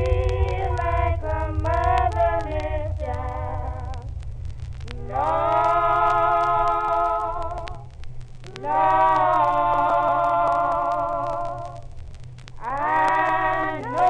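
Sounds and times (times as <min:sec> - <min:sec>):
person singing a cappella: 0:00.0 - 0:04.1, 0:04.8 - 0:07.9, 0:08.5 - 0:11.9, 0:12.6 - 0:14.0
low hum: 0:00.0 - 0:14.0.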